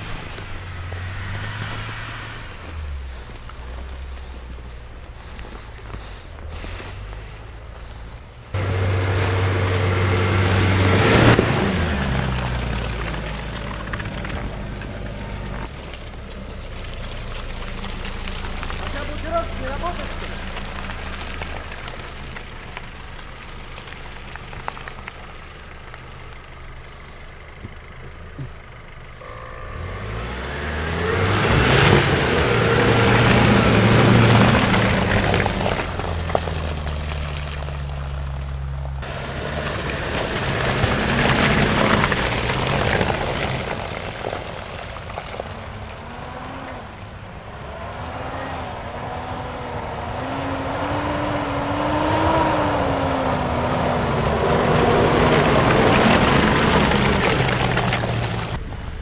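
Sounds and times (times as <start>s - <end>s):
off-road vehicle engine revving: 0.0s - 15.8s, 16.4s - 22.2s, 27.6s - 59.0s.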